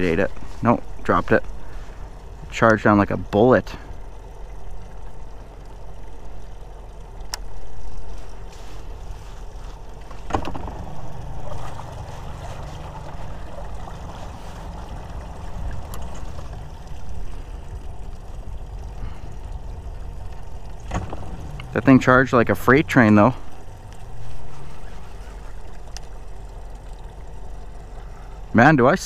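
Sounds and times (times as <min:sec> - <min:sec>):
boat low hum: 0:00.0 - 0:29.0
light water noise: 0:00.0 - 0:29.0.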